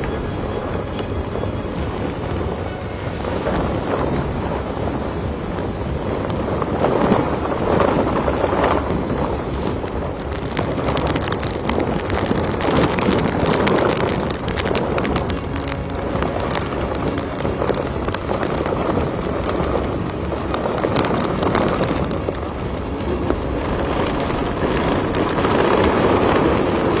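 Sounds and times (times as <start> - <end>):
heavy rain striking: 0.0 - 27.0
strong wind gusting: 0.0 - 27.0.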